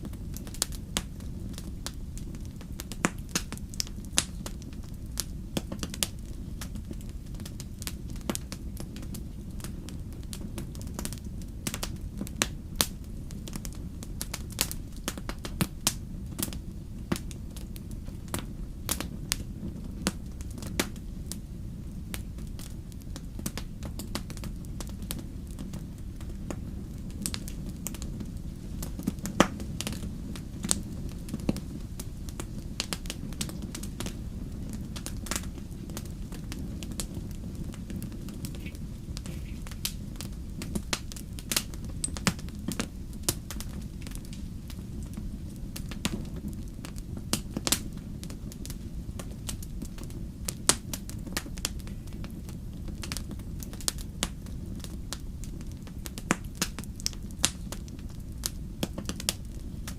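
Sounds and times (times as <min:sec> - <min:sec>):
fire low rumble: 0:00.0 - 0:59.9
wood fire crackling and popping: 0:00.0 - 0:59.9.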